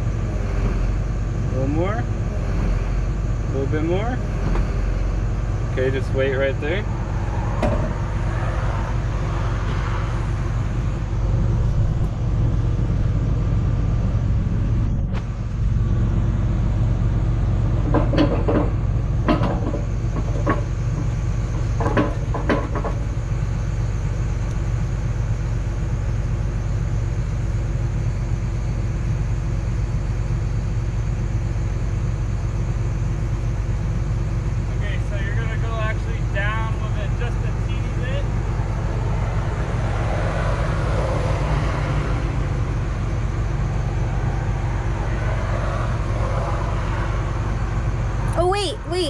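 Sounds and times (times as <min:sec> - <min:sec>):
diesel engine idling: 0:00.0 - 0:49.0.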